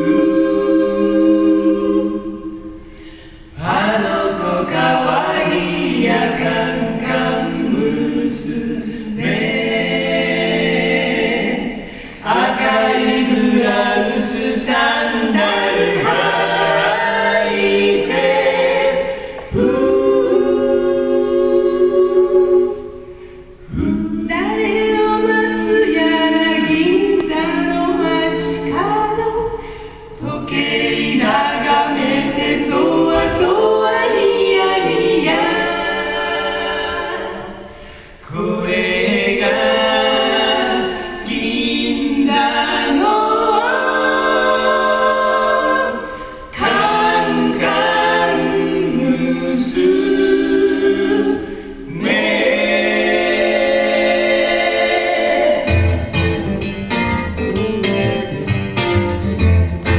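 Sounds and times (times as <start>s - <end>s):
vocal group singing in harmony: 0.0s - 56.4s.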